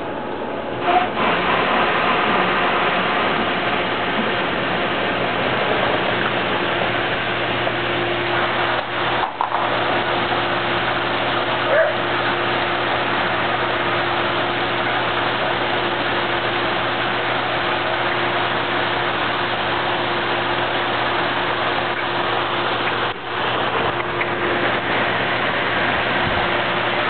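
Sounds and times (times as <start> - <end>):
low steady hum: 0.0 - 27.0
water rushing over waterfall: 0.8 - 27.0.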